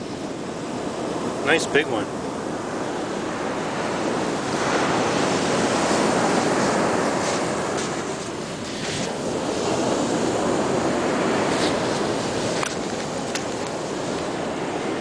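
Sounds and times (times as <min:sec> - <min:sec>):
surf breaking on beach: 0:00.1 - 0:15.0.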